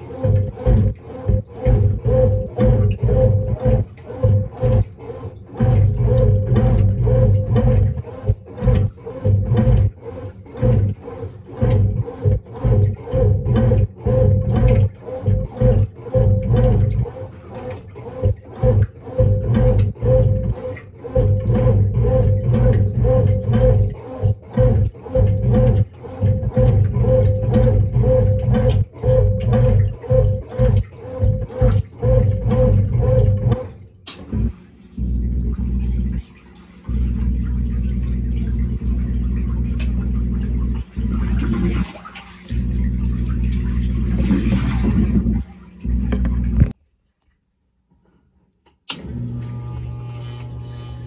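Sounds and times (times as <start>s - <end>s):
washing machine agitating clothes: 0.0s - 46.8s, 48.8s - 51.0s.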